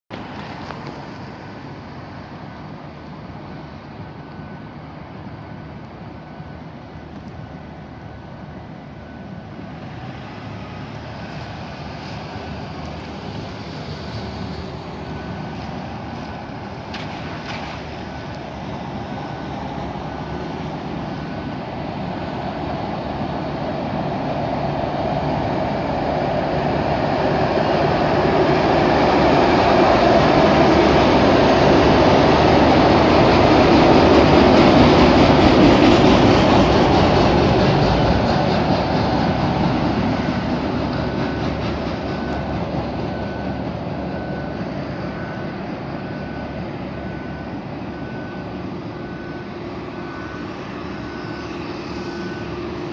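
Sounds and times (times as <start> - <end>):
train rumbling past: 0.1 - 52.9.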